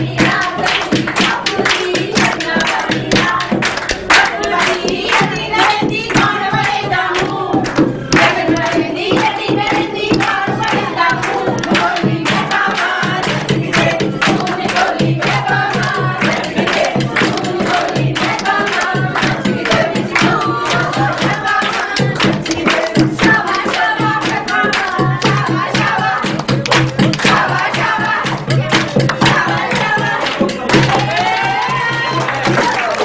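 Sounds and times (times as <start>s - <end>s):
group singing folk song: 0.0s - 33.0s
rhythmic hand clapping: 0.0s - 33.0s.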